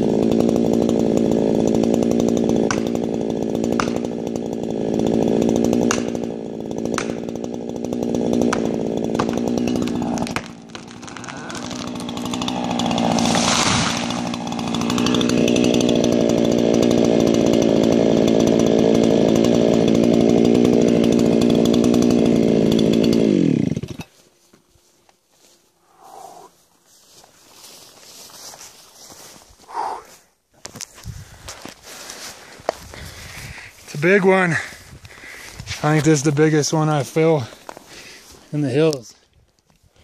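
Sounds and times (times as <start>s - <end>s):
chainsaw cutting wood: 0.0s - 24.2s, 31.0s - 39.0s.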